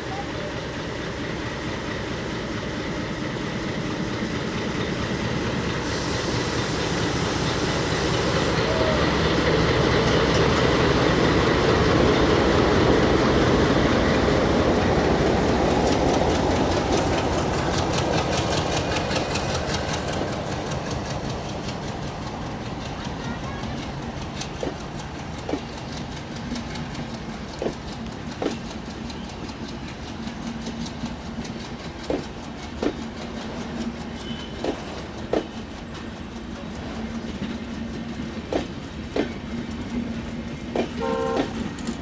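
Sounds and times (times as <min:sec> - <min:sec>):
train rumbling past: 0:00.0 - 0:42.0
train wheels clacking on rail joints: 0:00.1 - 0:42.0.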